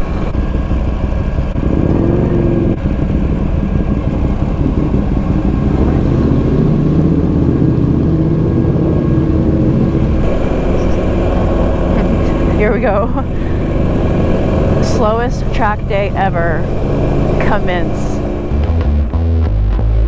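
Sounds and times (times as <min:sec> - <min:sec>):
motorcycle engine rumbling: 0:00.0 - 0:20.0.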